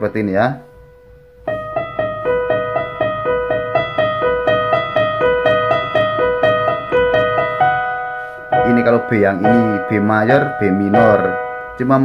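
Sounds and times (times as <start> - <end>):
electronic keyboard playing chord notes: 0.6 - 12.0.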